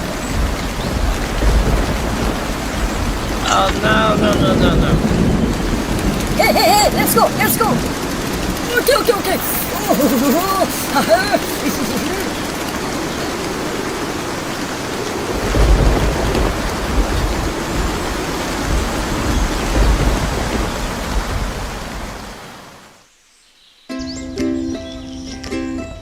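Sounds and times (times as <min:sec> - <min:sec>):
rushing noise like heavy rain: 0:00.0 - 0:23.2.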